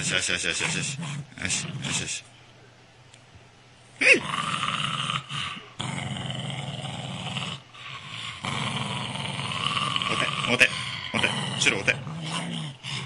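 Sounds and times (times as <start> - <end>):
dog growling: 0.0 - 2.2, 4.0 - 13.0.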